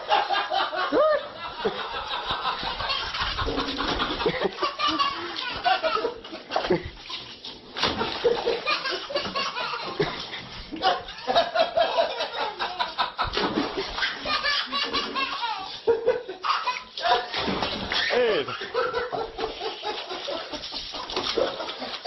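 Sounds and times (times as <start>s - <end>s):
hearty human laughter: 0.0s - 7.0s, 7.8s - 17.4s, 18.0s - 22.0s.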